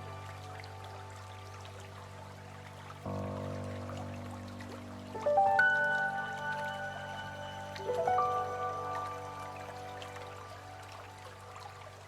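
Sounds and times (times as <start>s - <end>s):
calm ringing notes: 0.0s - 12.0s
low steady drone: 0.0s - 12.0s.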